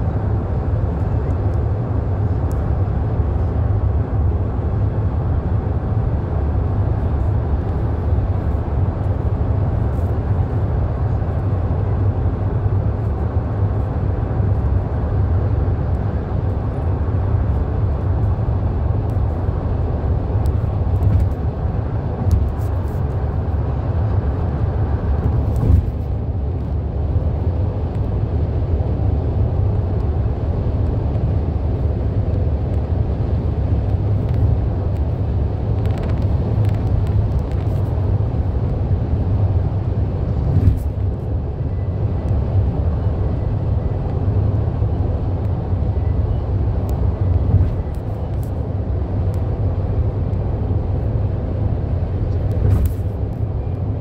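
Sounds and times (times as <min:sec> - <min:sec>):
road noise inside car: 0:00.0 - 0:54.0.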